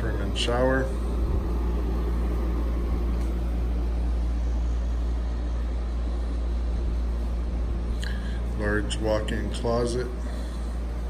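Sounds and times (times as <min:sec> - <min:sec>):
low machine hum with hiss: 0:00.0 - 0:11.0.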